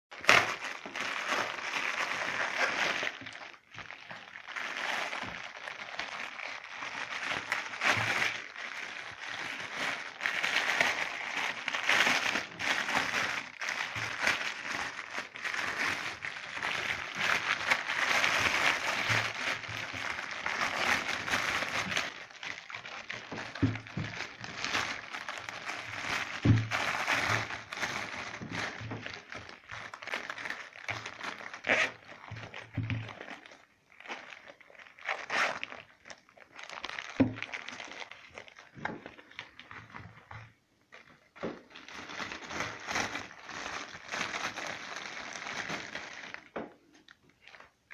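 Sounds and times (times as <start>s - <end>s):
plastic packaging crinkling: 0.1s - 47.9s.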